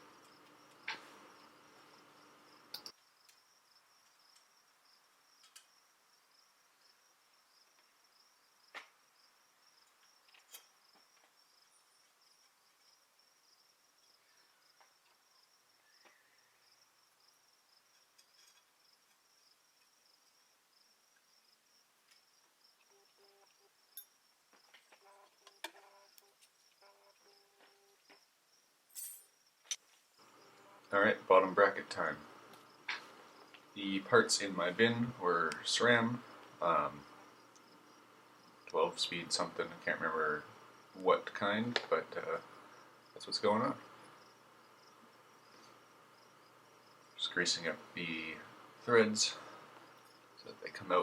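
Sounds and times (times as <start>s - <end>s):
faint cricket trill: 0.0s - 51.0s.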